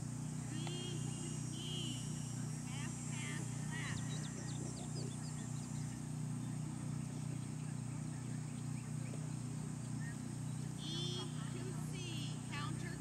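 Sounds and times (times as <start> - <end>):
low outdoor hum: 0.0 - 13.0
faint bird chirps: 0.5 - 11.3.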